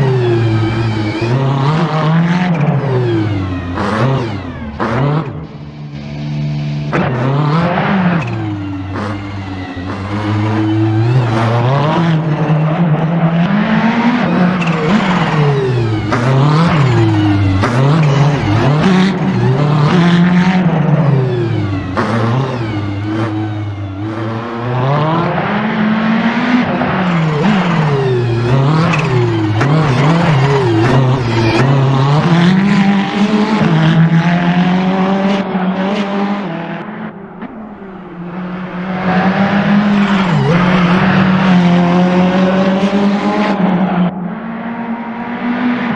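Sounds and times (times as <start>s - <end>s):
race car engine revving hard: 0.0s - 45.9s.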